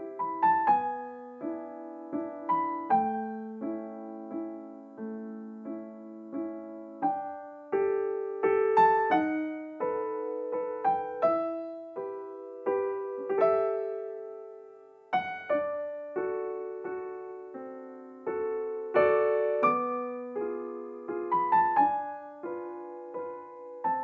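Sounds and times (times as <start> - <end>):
gentle piano piece: 0.0 - 24.0.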